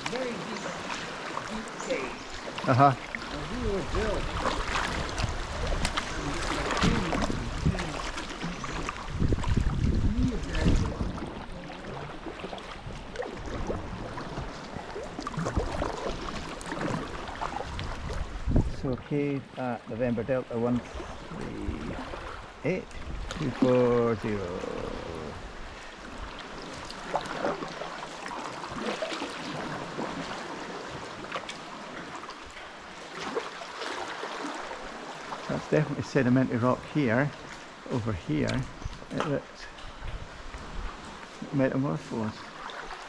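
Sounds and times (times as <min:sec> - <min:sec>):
paddle splashes: 0:00.0 - 0:43.0
water lapping around kayak: 0:00.0 - 0:43.0.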